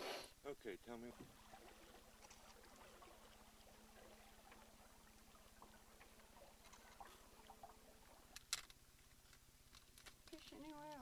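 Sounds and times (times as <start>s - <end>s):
faint steady hum: 0.0s - 11.0s
faint small ticks and knocks: 1.1s - 11.0s.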